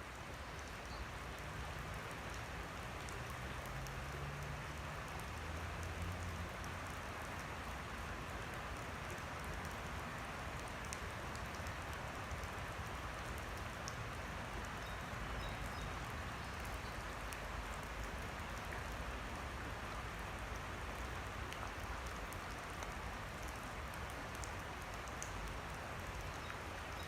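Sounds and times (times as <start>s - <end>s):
rain falling on creek: 0.0s - 27.0s.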